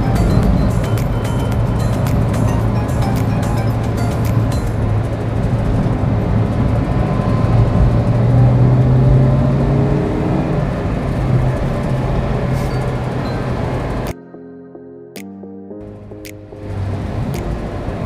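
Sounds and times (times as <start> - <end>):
car engine: 0.0 - 14.1, 15.9 - 18.0
road noise: 0.0 - 14.2, 15.8 - 18.0.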